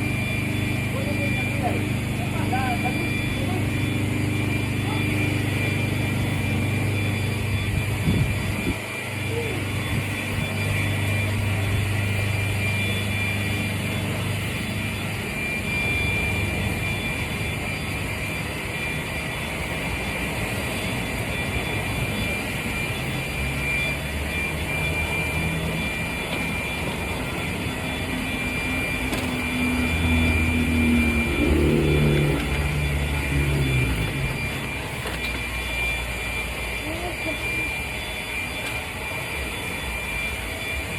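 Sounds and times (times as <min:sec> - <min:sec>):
high whine: 0:00.0 - 0:40.9.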